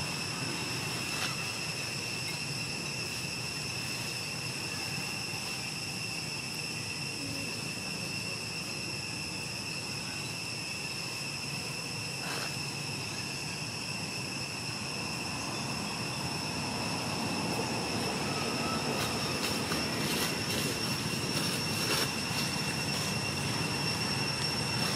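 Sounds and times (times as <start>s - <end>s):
insect drone: 0.0s - 24.9s.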